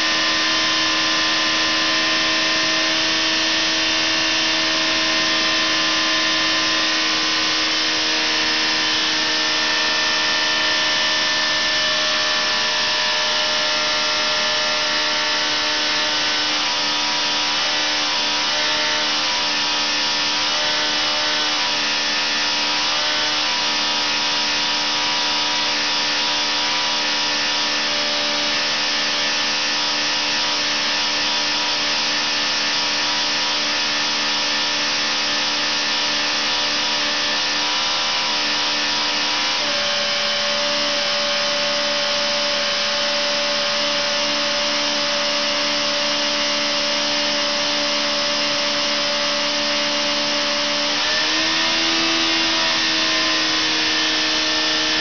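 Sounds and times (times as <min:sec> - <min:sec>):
engine running on test bed: 0:00.0 - 0:55.0.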